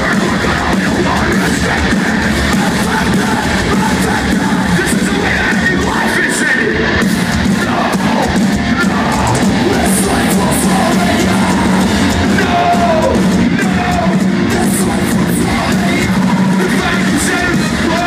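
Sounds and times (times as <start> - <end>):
distorted guitars: 0.0 - 18.0
drums: 0.0 - 18.0
vocals: 0.0 - 18.0.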